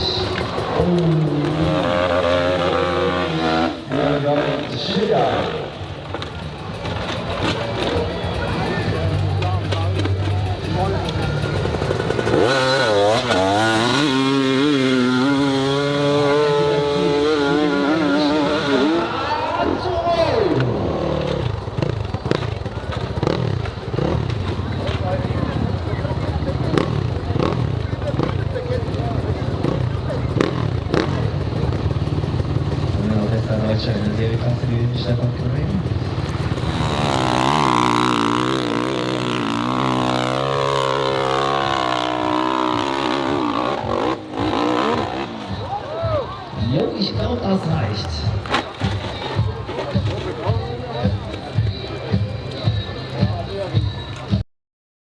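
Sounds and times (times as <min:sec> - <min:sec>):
dirt bike engine revving: 0:00.0 - 0:47.2.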